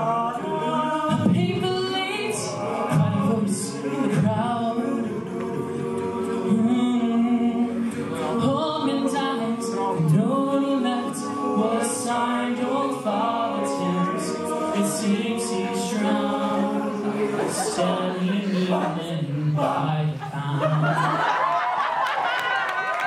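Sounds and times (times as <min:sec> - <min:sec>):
male a cappella group singing: 0:00.0 - 0:21.4.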